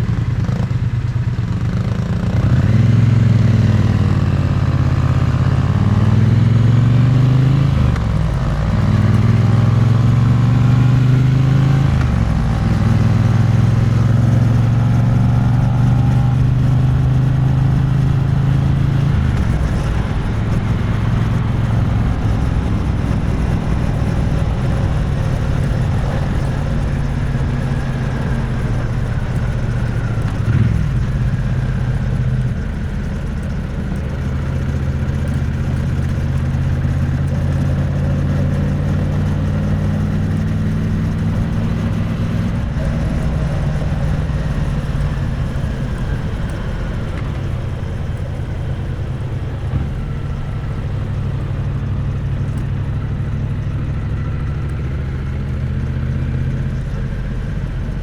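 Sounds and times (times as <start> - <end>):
motorcycle engine and exhaust running: 0.0 - 58.0.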